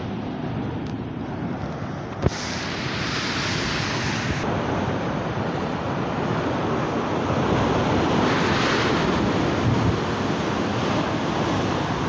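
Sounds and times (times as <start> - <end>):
wind buffeting microphone: 0.0 - 12.0
waves breaking on rocks: 2.2 - 12.0.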